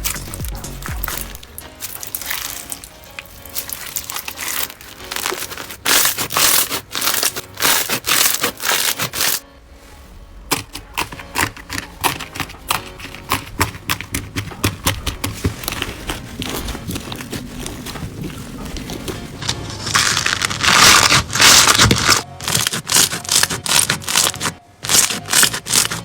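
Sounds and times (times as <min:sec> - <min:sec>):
slime squishing by hand: 0:00.0 - 0:09.4, 0:10.5 - 0:26.0.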